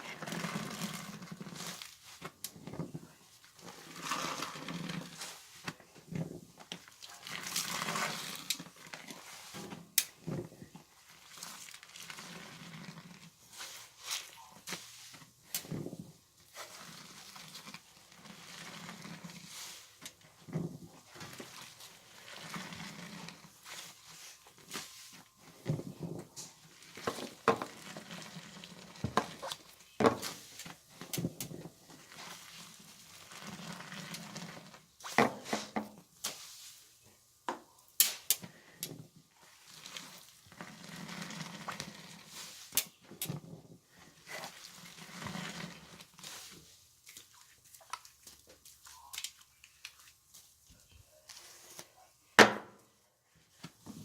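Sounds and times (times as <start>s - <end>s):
soapy laundry squelching: 0.0s - 36.9s, 39.4s - 43.3s, 44.0s - 50.7s.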